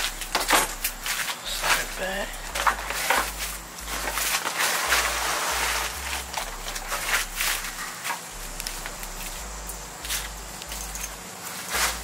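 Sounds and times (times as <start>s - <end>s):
plastic bumper cover rustling: 0.0s - 12.0s.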